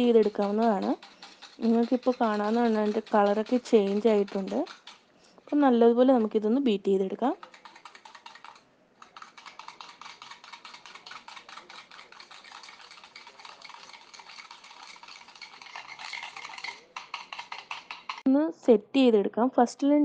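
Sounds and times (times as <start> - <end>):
whisk ticking against plastic bowl: 0.0 - 18.3.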